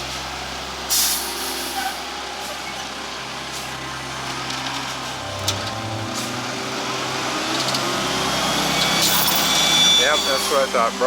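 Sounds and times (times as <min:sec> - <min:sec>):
diesel truck engines straining: 0:00.0 - 0:11.0.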